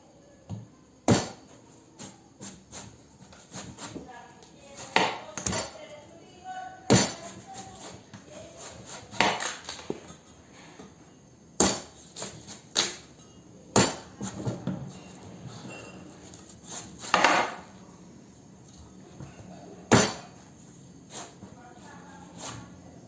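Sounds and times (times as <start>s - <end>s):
knife chopping watermelon: 0.5s - 5.8s, 6.9s - 10.2s, 11.6s - 17.8s, 18.6s - 22.8s.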